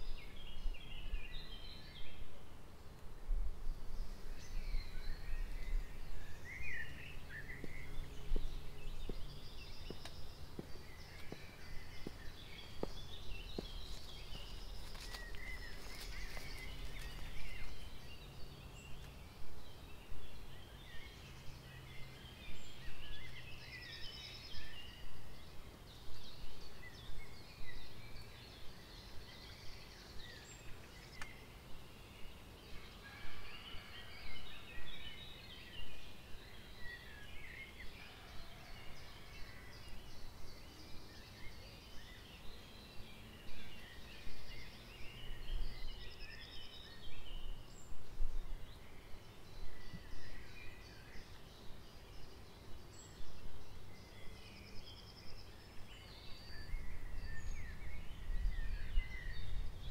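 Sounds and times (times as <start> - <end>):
wild birds singing and calling: 0.0 - 59.9.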